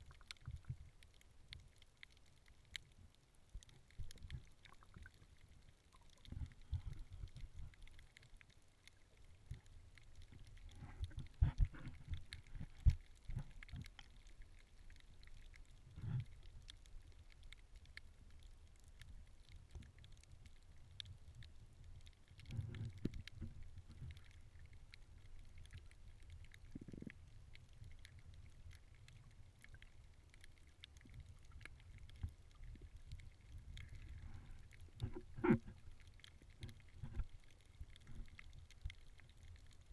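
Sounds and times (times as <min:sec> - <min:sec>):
faint clicks: 0:00.0 - 0:39.9
underwater rumble of moving water: 0:00.0 - 0:39.9.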